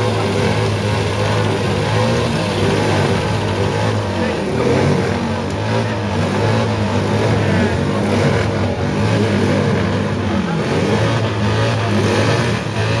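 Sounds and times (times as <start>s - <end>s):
low engine hum: 0.0s - 13.0s
motorcycle engines revving: 0.0s - 13.0s.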